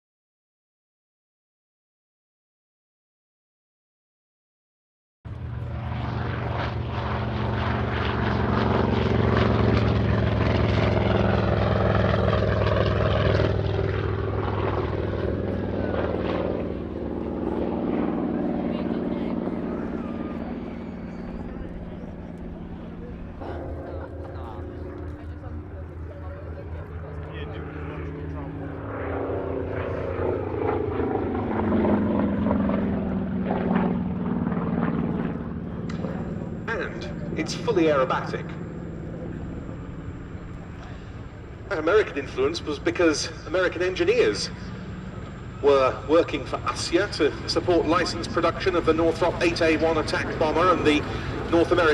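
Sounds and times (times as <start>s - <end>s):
propeller aircraft engine running: 5.3s - 51.9s.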